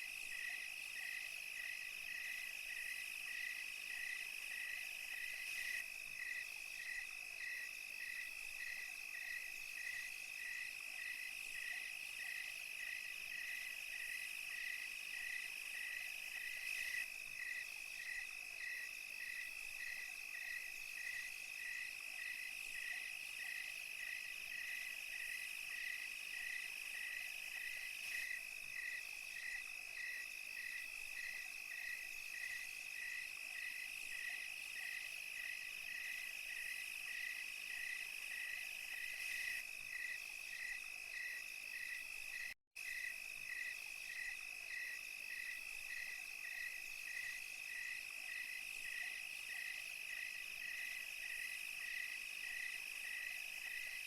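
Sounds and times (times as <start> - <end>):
crickets chirping: 0.0 - 54.0
high hiss of cicadas: 0.0 - 54.0
high insect trill: 0.2 - 54.0.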